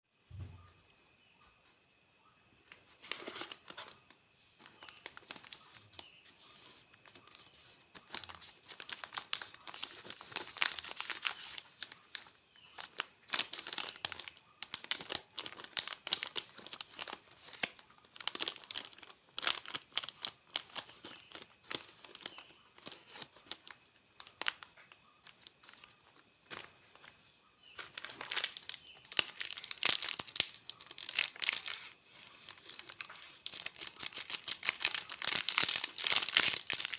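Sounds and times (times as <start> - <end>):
plastic packaging crinkling: 2.7 - 36.9.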